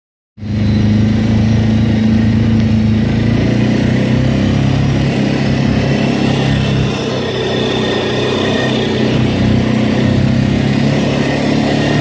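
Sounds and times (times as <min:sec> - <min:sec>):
quad bike engine running: 0:00.4 - 0:12.0.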